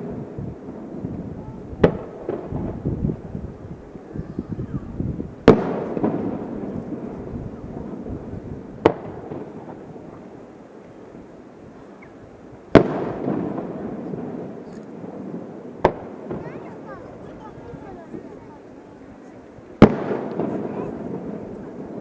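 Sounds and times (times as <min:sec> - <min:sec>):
firework bangs: 0:00.0 - 0:22.0
fireworks crackling and rumbling: 0:00.0 - 0:22.0.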